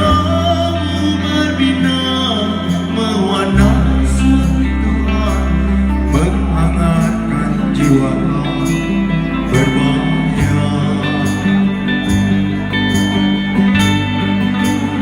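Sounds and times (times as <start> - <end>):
held bass notes: 0.0 - 15.0
live band playing: 0.0 - 15.0.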